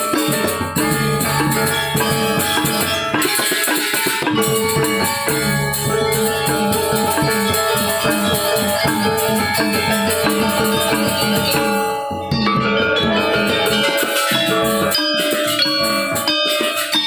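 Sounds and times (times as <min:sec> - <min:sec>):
metallophones ringing: 0:00.0 - 0:17.0.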